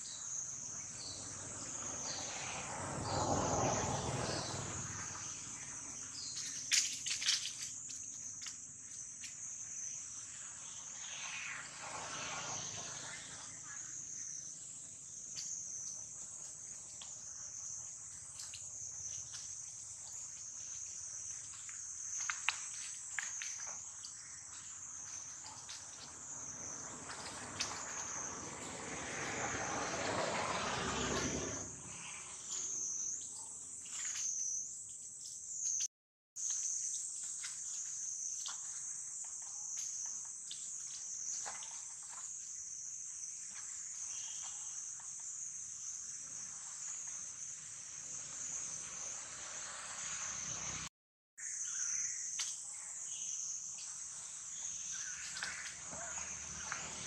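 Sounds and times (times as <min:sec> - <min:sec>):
insect chorus buzzing: 0:00.0 - 0:57.0.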